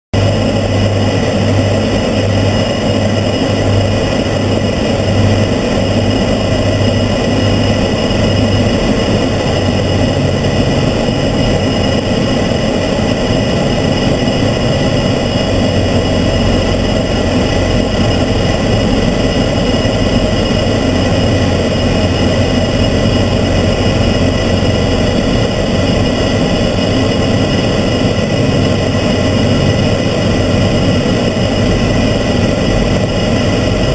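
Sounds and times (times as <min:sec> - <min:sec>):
pulsing low hum: 0:00.1 - 0:33.9
turboprop engines droning: 0:00.1 - 0:33.9.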